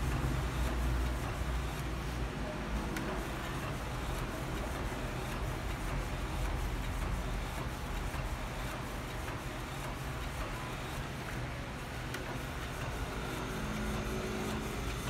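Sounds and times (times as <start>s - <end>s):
inkjet printer printing: 0.0s - 15.0s.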